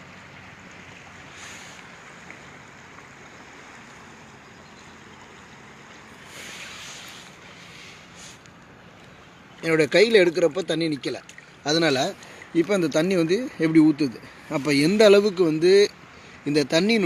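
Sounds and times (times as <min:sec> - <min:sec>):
stream rushing: 0:00.0 - 0:17.0
water splashing: 0:00.0 - 0:17.0.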